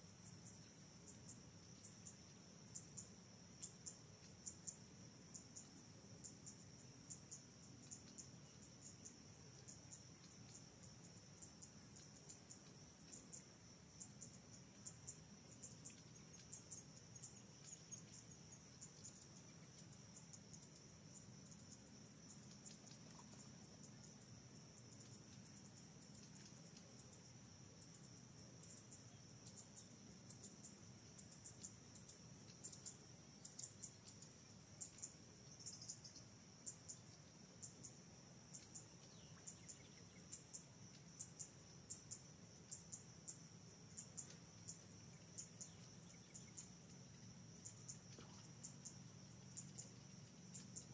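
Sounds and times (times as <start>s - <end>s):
insect chorus trilling: 0.2s - 50.9s.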